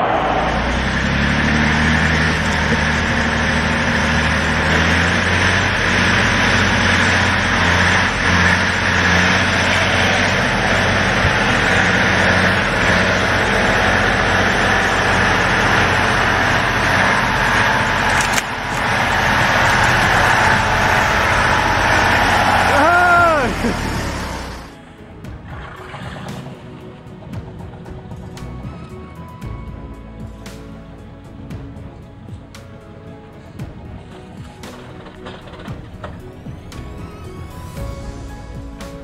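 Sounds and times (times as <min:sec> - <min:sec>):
truck engine running hard: 0:00.0 - 0:39.0.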